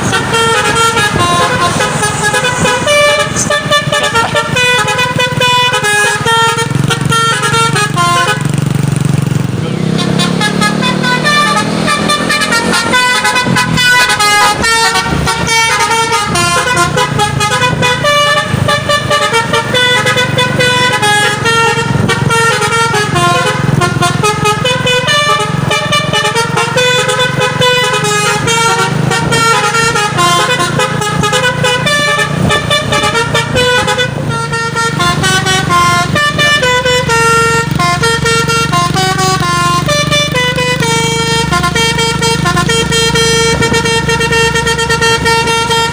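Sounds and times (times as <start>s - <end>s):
musical truck horn melody: 0.0s - 45.9s
truck engine running: 0.0s - 45.9s.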